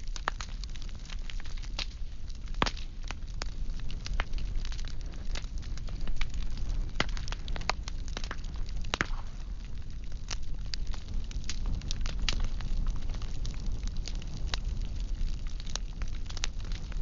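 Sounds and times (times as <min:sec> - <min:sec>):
fire rumbling: 0:00.0 - 0:17.0
firewood crackling and popping: 0:00.0 - 0:17.0.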